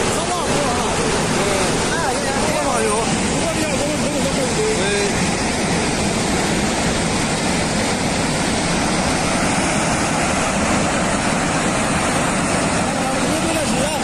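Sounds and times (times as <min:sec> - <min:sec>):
floodwater rushing torrent: 0:00.0 - 0:14.0.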